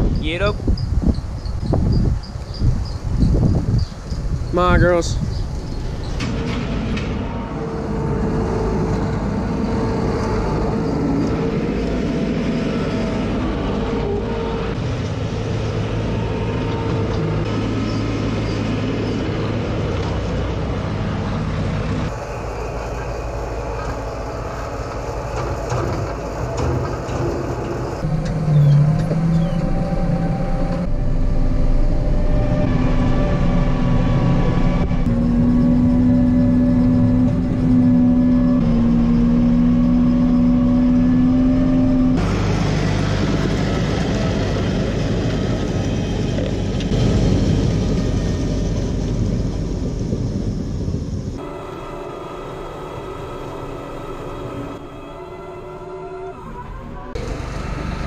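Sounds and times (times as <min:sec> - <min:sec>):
loader engine running: 0:04.3 - 0:58.0
tractor engine from inside cab: 0:06.9 - 0:55.0, 0:57.1 - 0:58.0.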